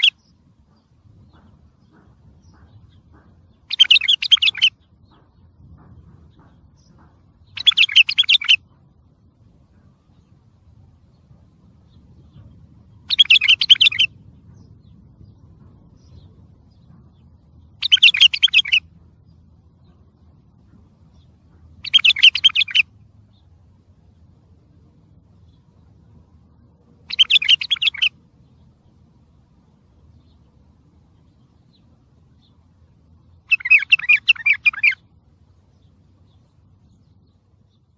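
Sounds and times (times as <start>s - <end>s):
bulbul warbled song: 0.0s - 37.9s
faint low background hum: 0.0s - 37.9s.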